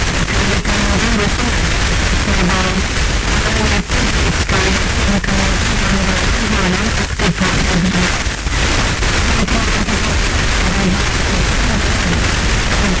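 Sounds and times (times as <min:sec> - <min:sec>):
radio crackles: 0:00.0 - 0:13.0
radio static hiss: 0:00.0 - 0:13.0
faint radio voice: 0:00.1 - 0:08.2, 0:09.2 - 0:13.0.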